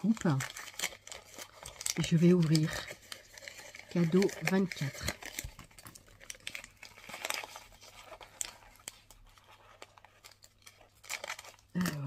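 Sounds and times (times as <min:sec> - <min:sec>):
wrapping paper crinkling: 0:00.0 - 0:12.0.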